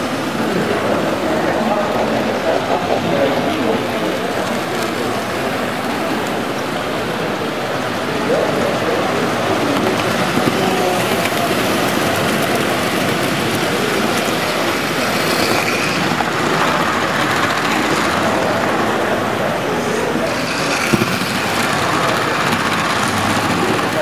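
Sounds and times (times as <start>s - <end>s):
model trains rolling on track: 0.0s - 24.0s.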